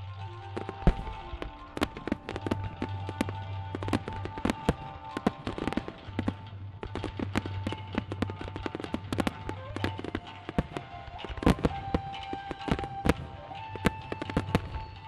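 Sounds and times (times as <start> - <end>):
fireworks bangs and pops: 0.0 - 15.0
music over speakers: 0.0 - 15.0.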